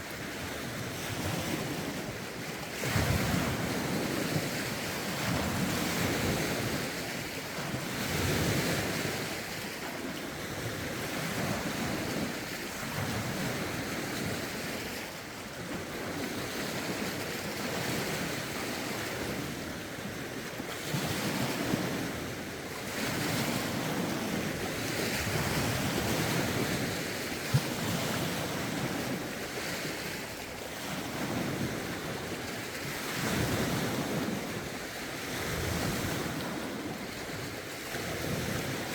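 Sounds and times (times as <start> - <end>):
gusty wind on microphone: 0.0 - 14.9, 15.6 - 38.9
waves lapping on shore: 0.0 - 38.9.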